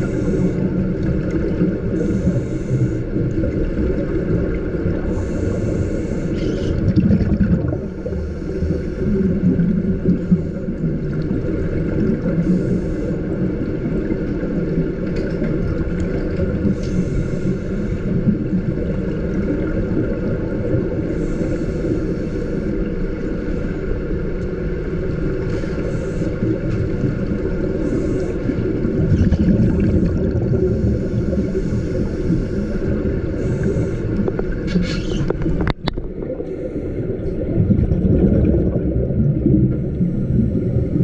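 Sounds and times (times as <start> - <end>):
regulator breathing rumble: 0.0 - 6.9, 7.6 - 14.1, 15.8 - 19.3, 20.2 - 41.0
exhaled bubbles hissing: 0.0 - 41.0.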